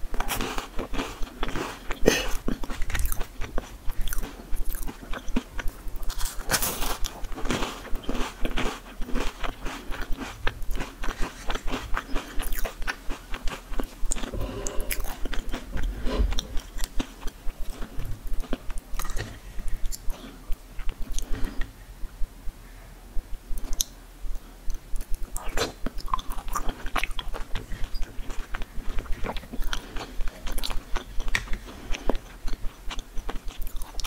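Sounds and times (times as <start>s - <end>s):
chewing crunchy seeds and nuts: 0.0s - 21.7s, 24.7s - 34.0s.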